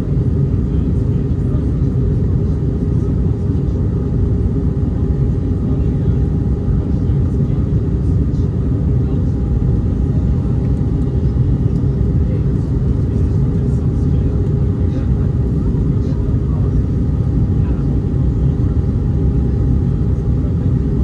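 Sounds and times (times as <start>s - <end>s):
aircraft cabin engine rumble: 0.0s - 21.0s.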